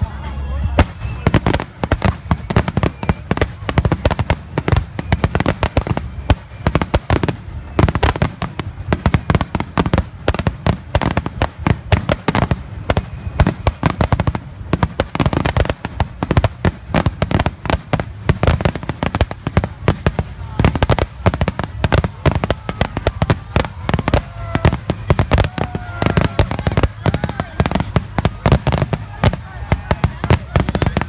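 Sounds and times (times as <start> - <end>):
fireworks bursting and crackling: 0.6 - 31.0.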